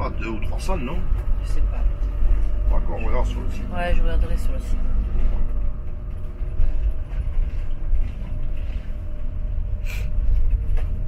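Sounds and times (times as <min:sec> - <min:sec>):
motorhome engine and road noise: 0:00.0 - 0:11.0.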